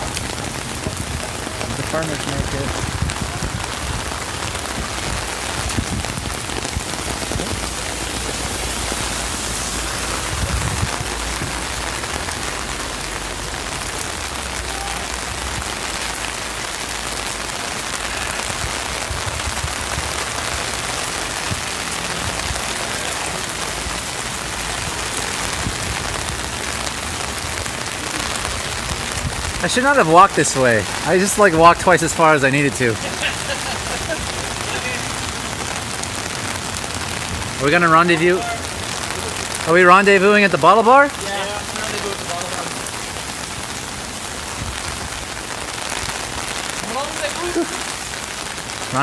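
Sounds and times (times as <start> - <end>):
heavy rain on an umbrella: 0.0 - 49.0.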